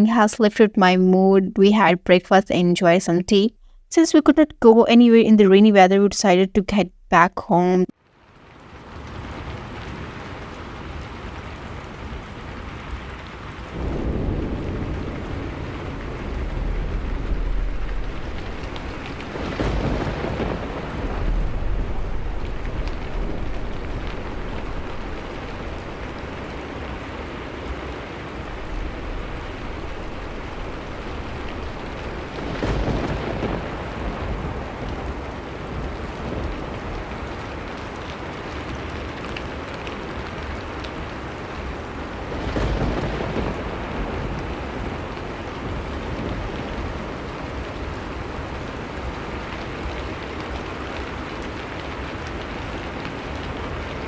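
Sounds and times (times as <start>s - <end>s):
heavy rain: 7.9s - 54.0s.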